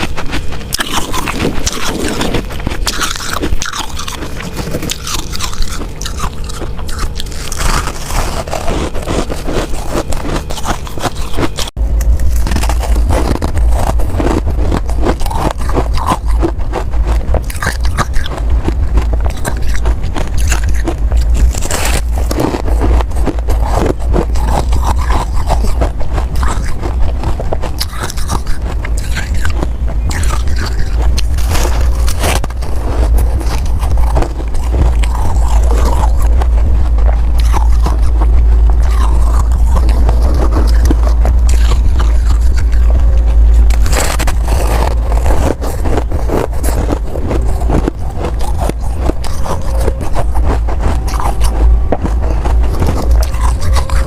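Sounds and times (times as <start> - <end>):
ice being chewed: 0.0 - 54.0
steady low hum: 0.0 - 54.0.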